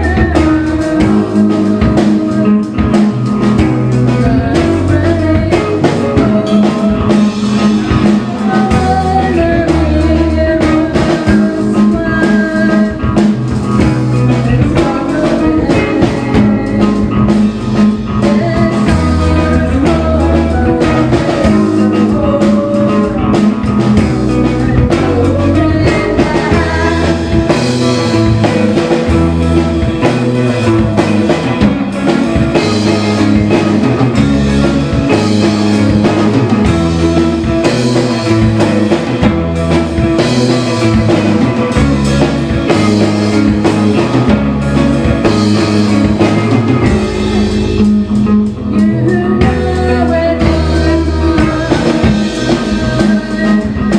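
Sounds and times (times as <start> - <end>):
distorted electric guitar: 0.0 - 53.9
drum kit: 0.0 - 53.9
electric bass: 0.0 - 53.9.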